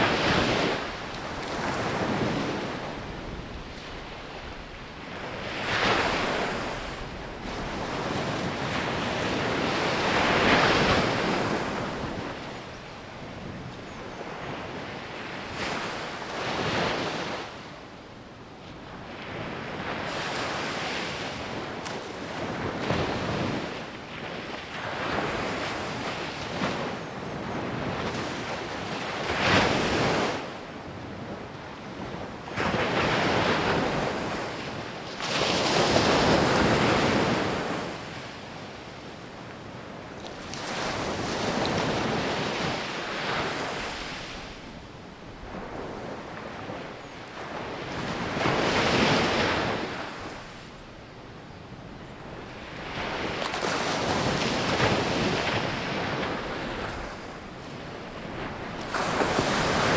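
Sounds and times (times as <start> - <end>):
ocean waves breaking on beach: 0.0 - 13.6, 19.1 - 51.0, 51.8 - 59.9.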